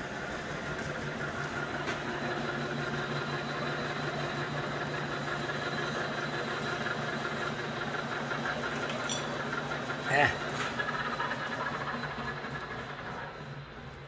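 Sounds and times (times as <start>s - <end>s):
lathe motor humming: 0.0s - 14.0s.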